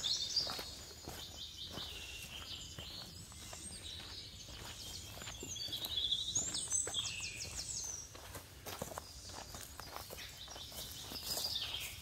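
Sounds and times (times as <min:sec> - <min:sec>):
birds chirping: 0:00.0 - 0:12.0
footsteps on rocky dirt trail: 0:00.0 - 0:12.0.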